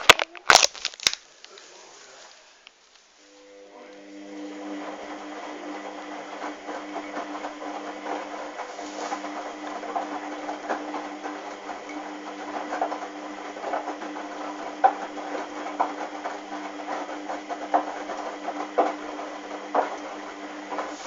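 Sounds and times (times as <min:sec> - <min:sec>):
washing machine motor humming: 0:03.2 - 0:21.0.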